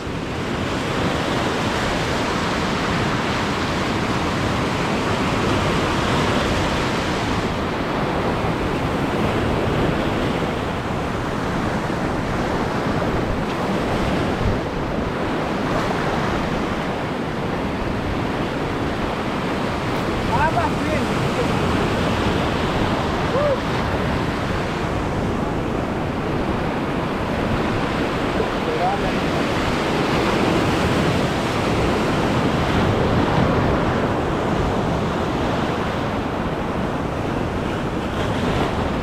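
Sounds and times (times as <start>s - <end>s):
surf washing over reef: 0.0s - 39.0s
wind buffeting microphone: 0.0s - 39.0s.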